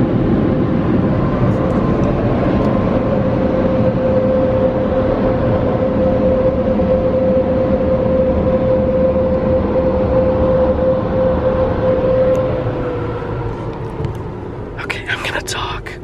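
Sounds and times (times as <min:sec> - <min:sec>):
dryer blowers rushing air: 0:00.0 - 0:15.8.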